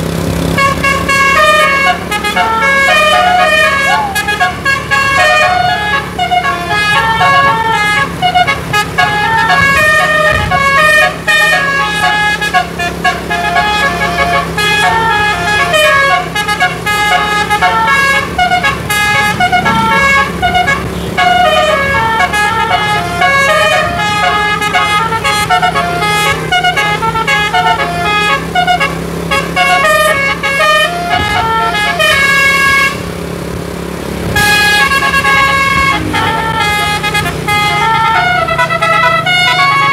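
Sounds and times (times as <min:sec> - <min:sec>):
musical bus air horns: 0:00.0 - 0:33.6, 0:34.2 - 0:39.9.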